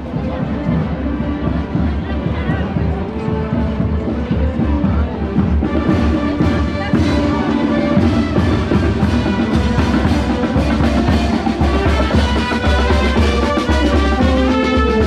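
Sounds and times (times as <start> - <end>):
brass and saxophones playing a march: 0.1 - 15.0
bass drum and snare drum beat: 2.5 - 15.0.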